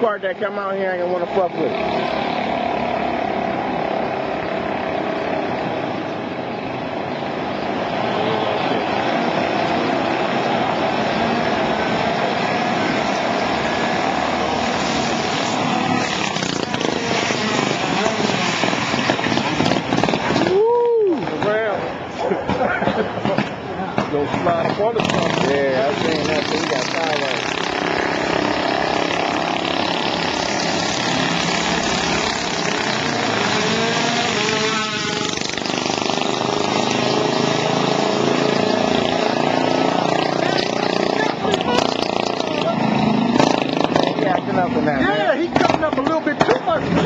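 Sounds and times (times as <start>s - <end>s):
minibike engine at high revs: 0.5s - 6.2s, 8.0s - 20.6s, 24.4s - 47.0s.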